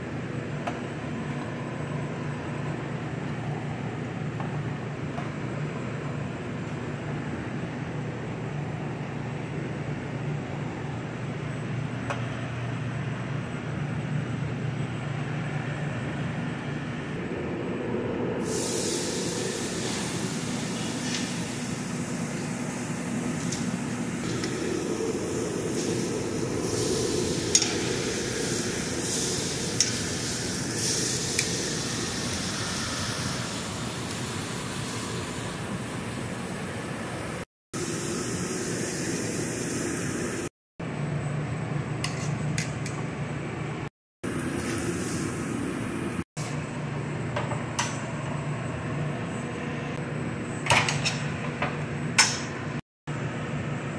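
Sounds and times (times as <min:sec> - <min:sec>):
kitchen ventilation hum: 0:00.0 - 0:53.9.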